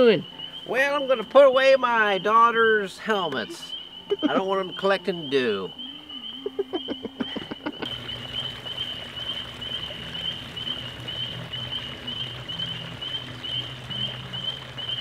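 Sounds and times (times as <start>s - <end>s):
frogs croaking: 0.0s - 15.0s
insects trilling: 0.0s - 15.0s
trickling water: 0.0s - 15.0s.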